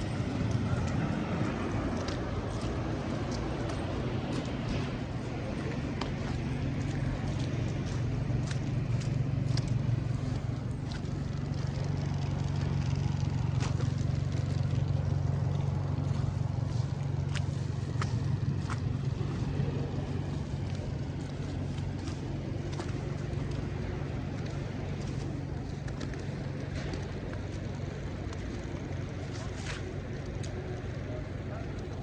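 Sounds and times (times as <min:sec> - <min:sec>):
vehicle engine humming: 0:00.0 - 0:32.0
short ticks and crunches: 0:00.3 - 0:32.0.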